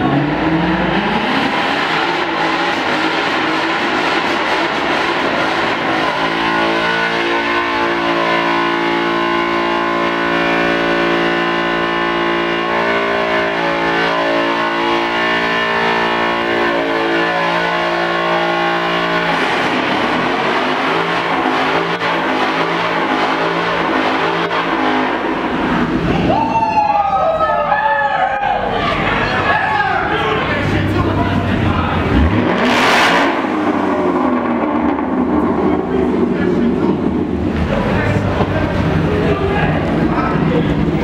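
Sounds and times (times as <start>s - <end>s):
car engine revving hard: 0.0s - 26.3s, 30.2s - 41.0s.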